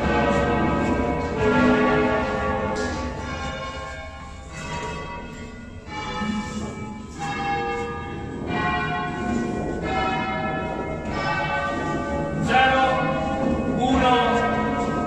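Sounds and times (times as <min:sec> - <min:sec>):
large church bells ringing: 0:00.0 - 0:15.0.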